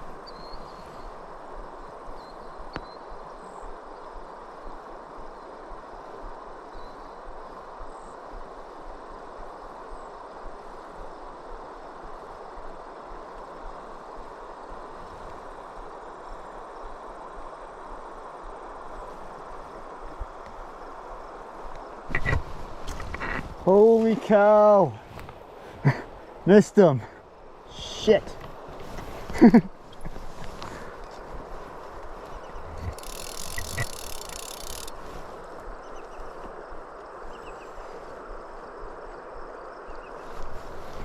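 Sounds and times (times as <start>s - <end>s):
flowing river water: 0.0s - 41.0s.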